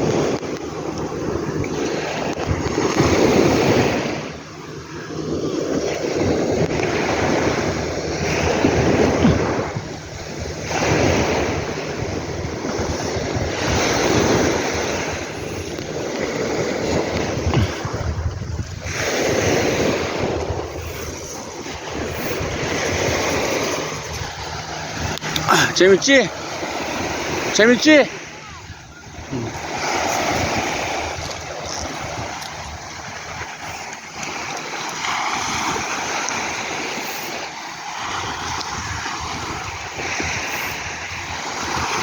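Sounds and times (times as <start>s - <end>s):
sea waves breaking: 0.0s - 42.0s.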